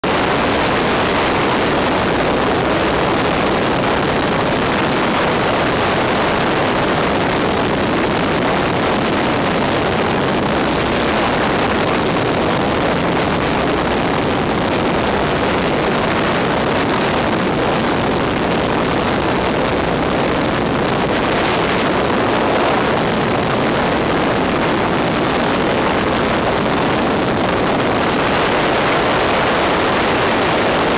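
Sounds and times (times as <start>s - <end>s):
biplane engine and propeller drone: 0.0s - 30.9s
slipstream wind noise on microphone: 0.0s - 30.9s.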